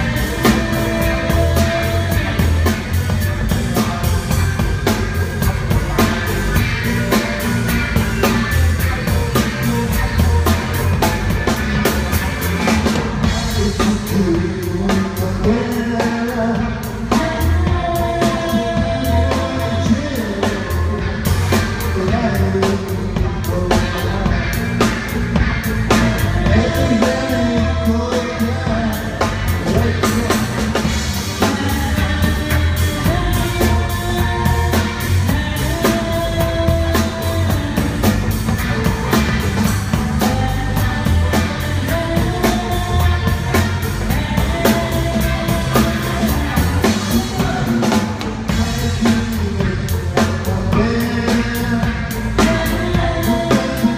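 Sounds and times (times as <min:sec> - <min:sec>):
drum kit beat: 0:00.0 - 0:53.9
electric guitars: 0:00.0 - 0:53.9
live rock band playing: 0:00.0 - 0:53.9
person singing: 0:00.0 - 0:53.9.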